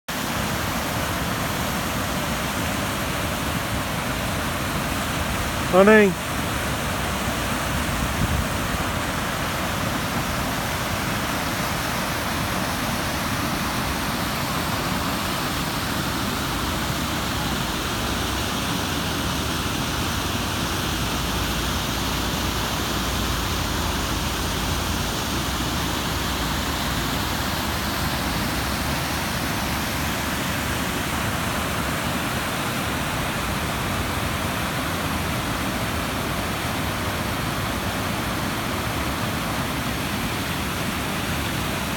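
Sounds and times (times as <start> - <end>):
waterfall rushing over rocks: 0.1 - 41.9.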